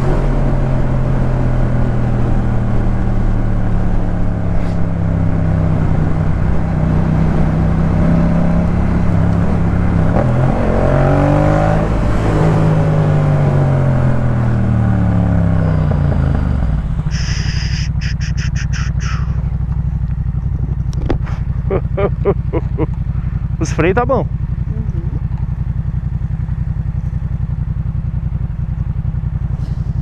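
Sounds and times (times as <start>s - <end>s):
motorcycle engine: 0.0s - 30.0s.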